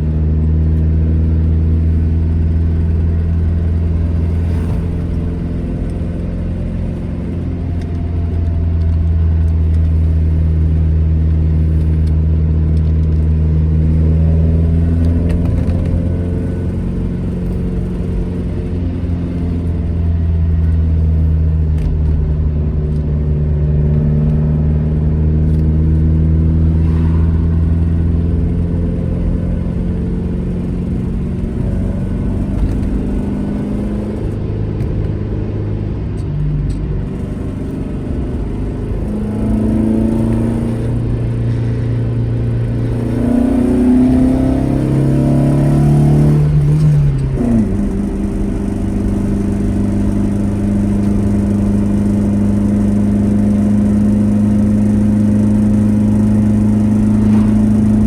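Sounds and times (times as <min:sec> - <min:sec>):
car engine running while driving: 0:00.0 - 0:58.0.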